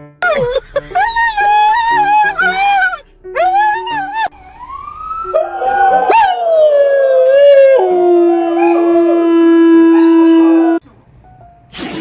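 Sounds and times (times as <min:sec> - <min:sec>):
dog howling: 0:00.3 - 0:10.8.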